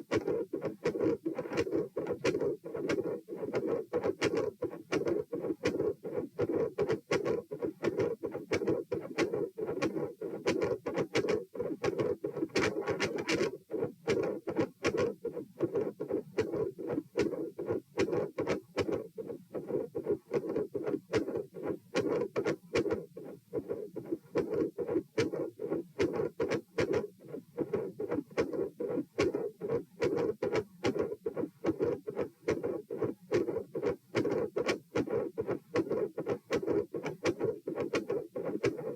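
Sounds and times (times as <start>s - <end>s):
heartbeat: 0.0s - 38.9s.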